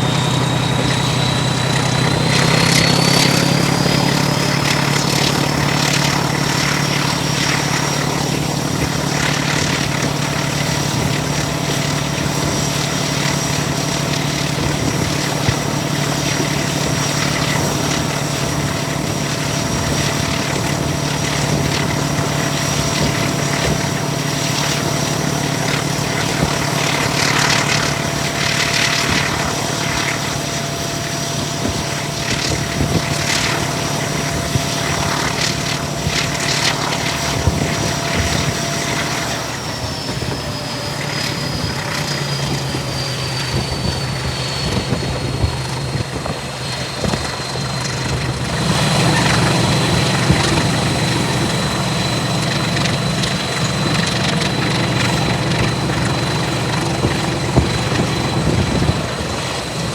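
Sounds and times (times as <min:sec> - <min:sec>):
diesel train engine drone: 0:00.0 - 0:59.9.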